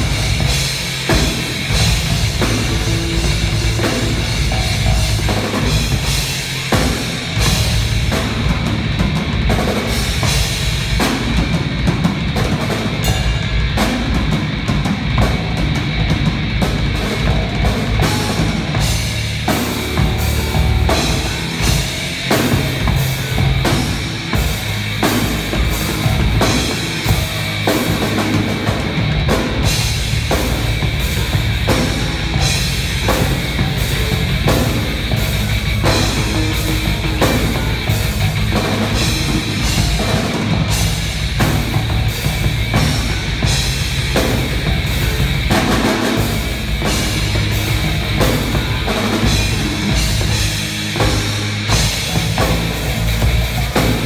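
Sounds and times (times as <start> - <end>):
drum kit: 0.0 - 54.0
rock band playing live: 0.0 - 54.0.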